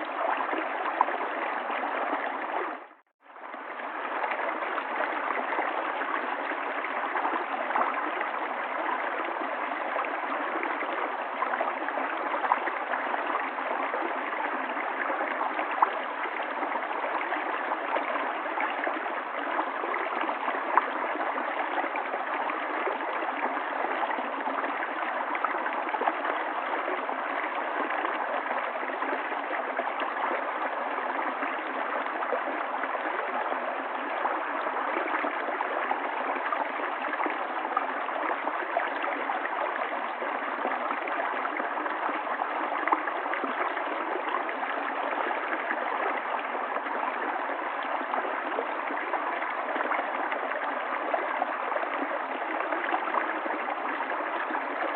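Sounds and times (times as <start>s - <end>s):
river water flowing and gurgling: 0.0s - 54.9s.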